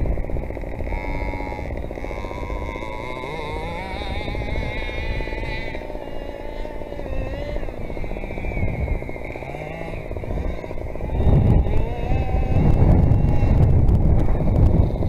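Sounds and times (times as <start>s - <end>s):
small two-stroke engine revving: 0.0s - 15.0s
wind rumble on microphone: 0.0s - 15.0s.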